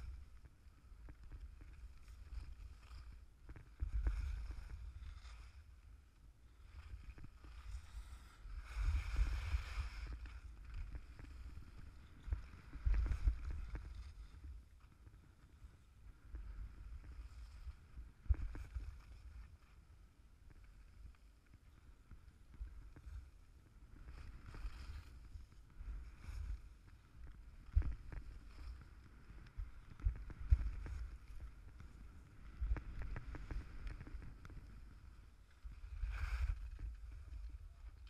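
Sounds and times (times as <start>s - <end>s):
skis scraping over snow: 0.1s - 19.9s, 20.5s - 38.0s.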